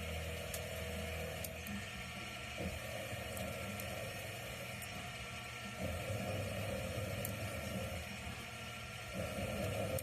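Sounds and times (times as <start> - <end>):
lathe mechanical hum: 0.0 - 10.0.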